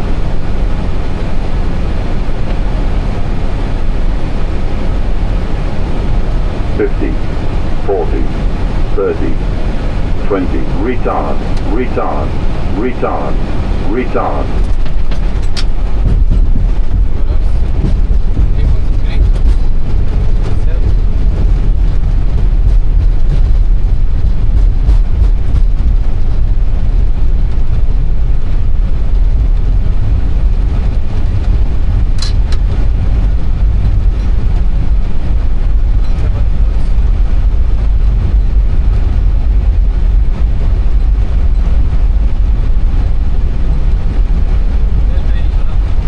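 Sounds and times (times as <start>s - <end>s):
airplane landing rumble: 0.0s - 46.0s.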